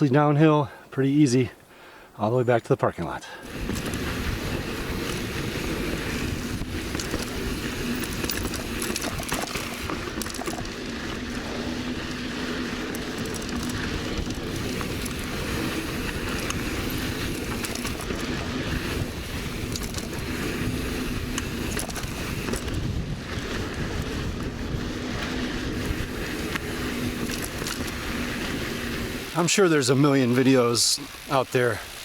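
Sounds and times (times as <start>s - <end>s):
wind noise on microphone: 3.4s - 29.4s
bike tyres rumbling on dirt: 3.4s - 32.0s.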